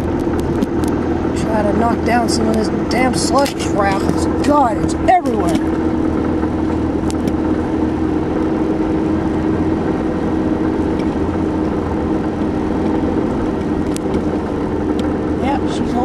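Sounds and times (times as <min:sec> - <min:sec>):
truck engine hum: 0:00.0 - 0:16.0
tyre and road noise: 0:00.0 - 0:16.0.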